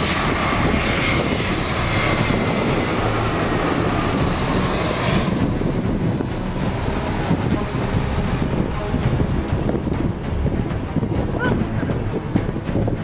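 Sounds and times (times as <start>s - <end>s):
high engine whine: 0.0s - 13.0s
jet airliner engines rumbling: 0.0s - 13.0s.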